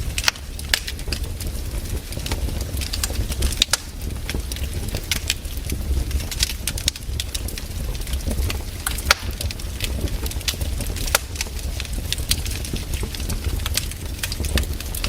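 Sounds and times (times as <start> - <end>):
burning wood crackling and popping: 0.0 - 15.0
low steady rumble: 0.0 - 15.0.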